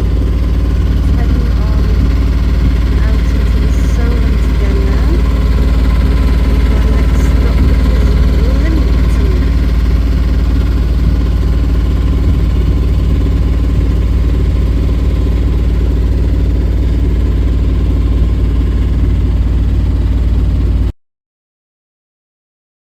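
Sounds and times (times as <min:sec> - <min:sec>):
boat engine rumbling: 0:00.0 - 0:20.9.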